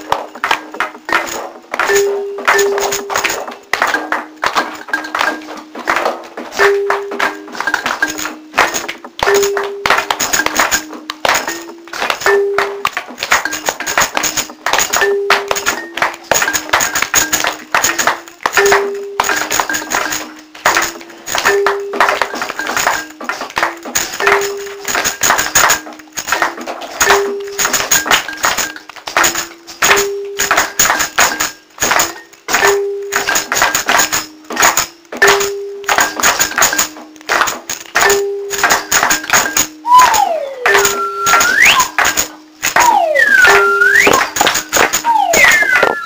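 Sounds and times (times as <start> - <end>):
sharp percussive taps: 0.0 - 46.0.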